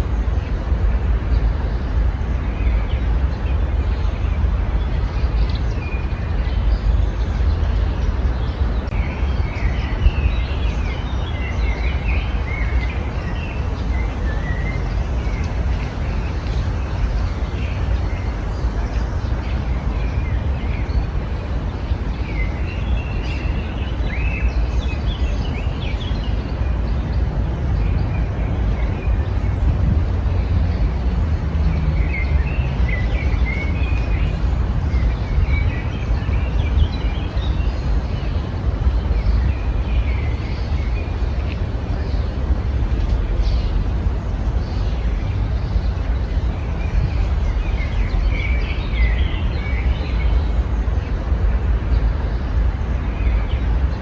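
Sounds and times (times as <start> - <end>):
songbirds chirping: 0.0 - 54.0
steady low rumble: 0.0 - 54.0.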